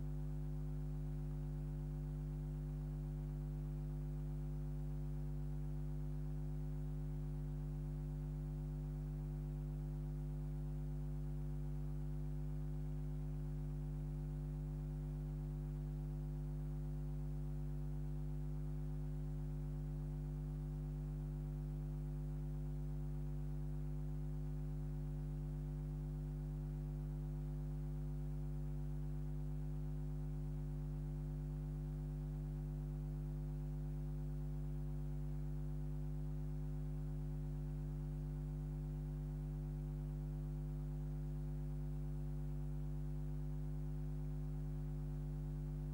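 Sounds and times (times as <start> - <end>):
electrical mains hum: 0.0 - 45.9.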